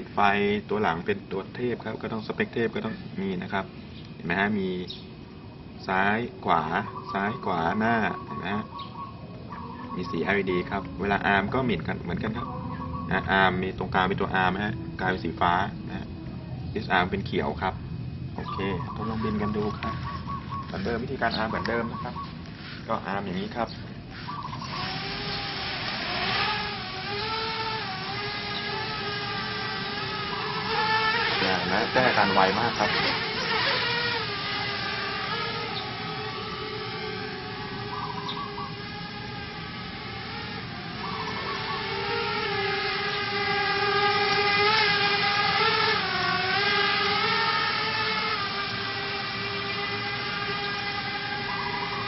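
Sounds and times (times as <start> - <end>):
quadcopter motors whining: 0.0 - 52.0.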